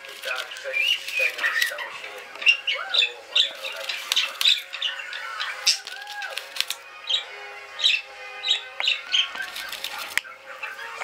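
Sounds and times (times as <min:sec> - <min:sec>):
budgerigars chirping and chattering: 0:00.0 - 0:11.0.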